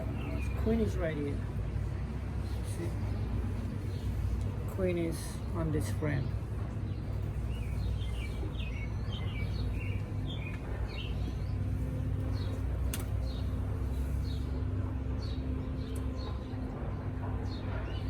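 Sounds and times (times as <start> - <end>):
small birds chirping: 0.0 - 16.6
honeybees humming: 0.0 - 18.0.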